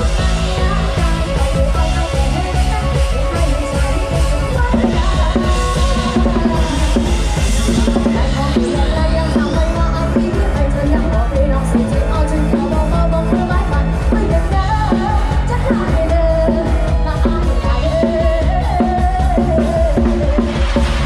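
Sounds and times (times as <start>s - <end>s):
band with drums and bass: 0.0s - 21.0s
person singing long notes: 0.0s - 21.0s.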